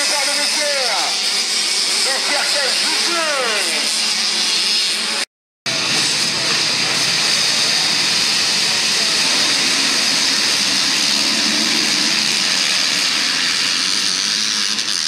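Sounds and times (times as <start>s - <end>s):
motocross bikes revving: 0.0s - 4.1s, 5.7s - 15.0s.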